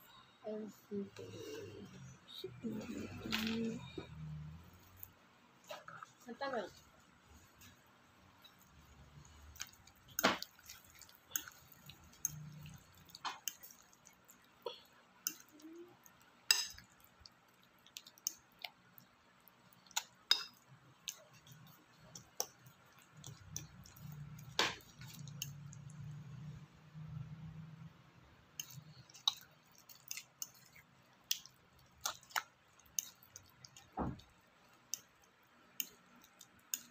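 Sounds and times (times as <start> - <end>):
meat squishing in batter: 3.9 - 27.6, 28.4 - 36.9.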